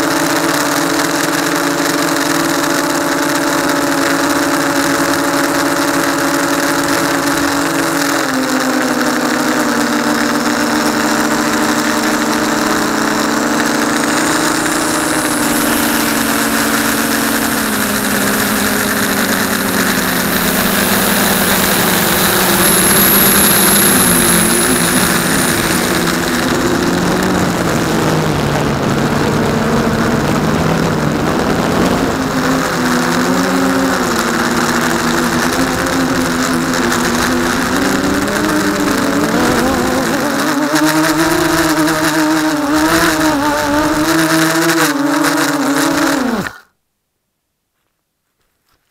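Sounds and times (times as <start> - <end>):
quadcopter motors humming: 0.0 - 46.7.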